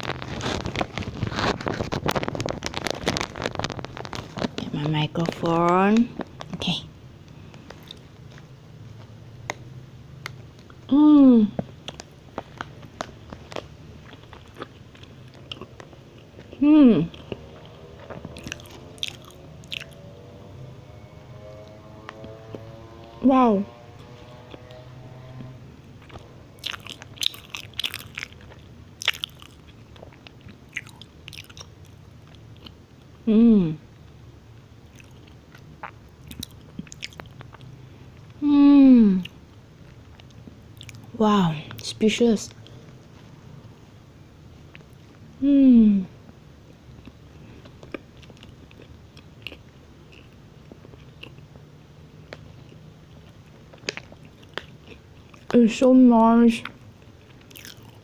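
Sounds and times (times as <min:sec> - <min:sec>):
person chewing crunchy muffin: 0:00.0 - 0:20.3, 0:25.4 - 0:33.3, 0:33.9 - 0:38.4, 0:39.0 - 0:41.8, 0:44.5 - 0:45.4, 0:46.6 - 0:55.6, 0:56.6 - 0:58.0.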